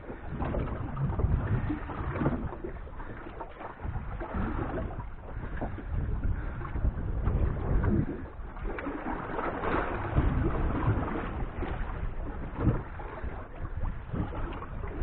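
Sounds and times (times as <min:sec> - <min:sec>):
water slapping against boat hull: 0:00.0 - 0:15.0
wind buffeting microphone: 0:00.0 - 0:15.0.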